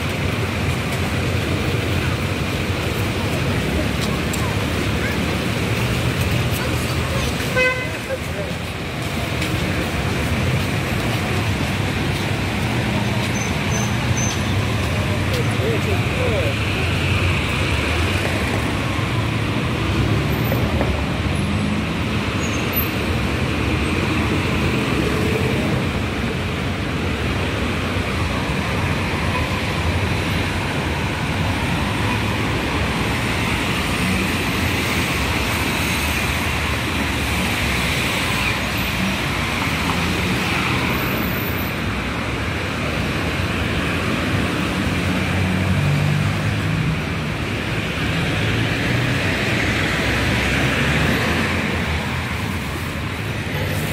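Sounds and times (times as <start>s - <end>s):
cars driving past: 0.0s - 53.9s.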